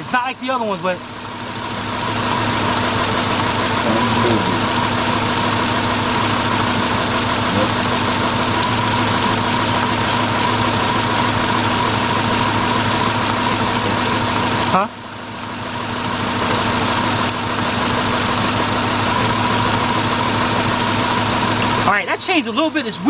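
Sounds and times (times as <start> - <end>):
car engine idling with misfire: 0.0 - 23.0.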